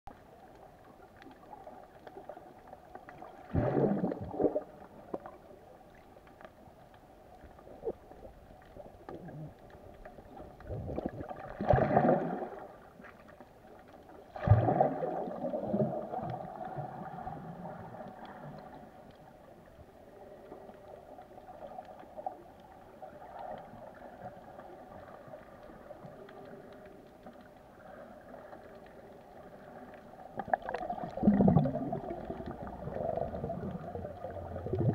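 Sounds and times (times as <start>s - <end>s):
muffled underwater sloshing: 0.1s - 34.9s
rushes of water and bubbles: 0.1s - 34.9s.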